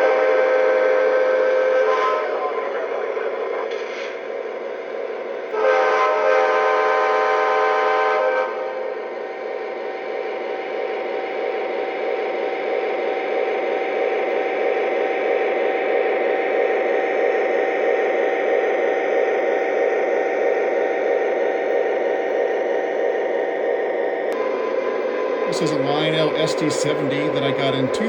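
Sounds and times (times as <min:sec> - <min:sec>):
model locomotive whirring: 0:00.0 - 0:28.0.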